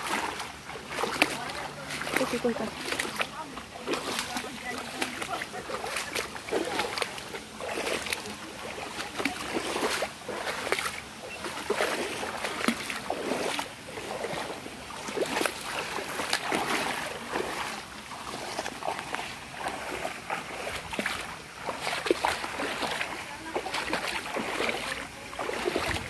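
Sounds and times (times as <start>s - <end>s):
footsteps wading through stream: 0.0s - 26.0s.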